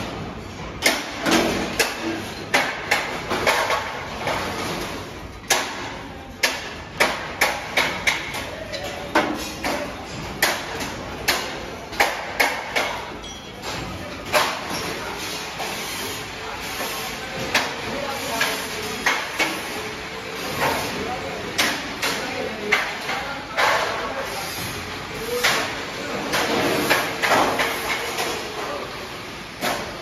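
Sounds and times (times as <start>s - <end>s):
workshop noise: 0.0s - 30.0s.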